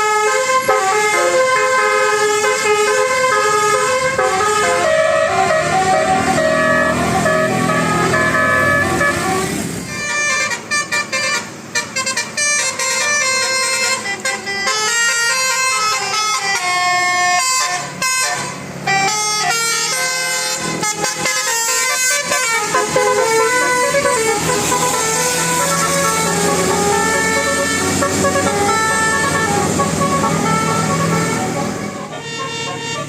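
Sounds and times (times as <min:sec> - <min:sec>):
bus horn playing a melody: 0:00.0 - 0:33.0.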